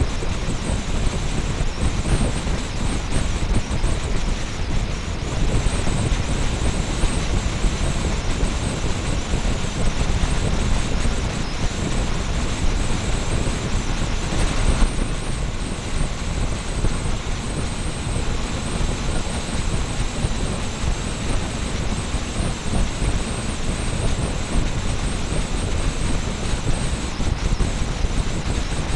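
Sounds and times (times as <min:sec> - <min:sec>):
wind rush on microphone: 0:00.0 - 0:28.9.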